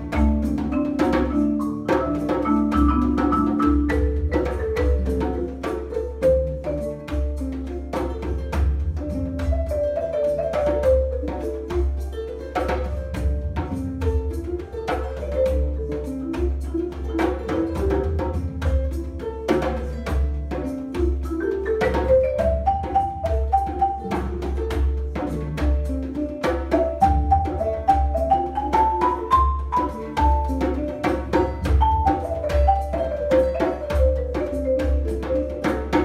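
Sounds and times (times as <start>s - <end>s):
djembe hand drumming: 0.0s - 36.0s
marimba melody: 0.0s - 36.0s.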